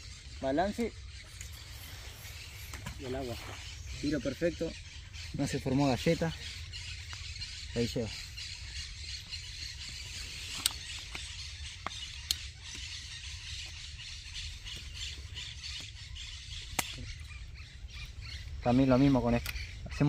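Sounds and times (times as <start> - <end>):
distant birds: 0.0 - 20.0.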